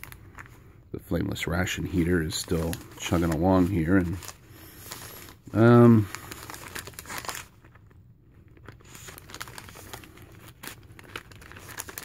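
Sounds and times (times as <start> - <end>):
plastic pouch crinkling: 0.0 - 0.6, 1.4 - 12.0.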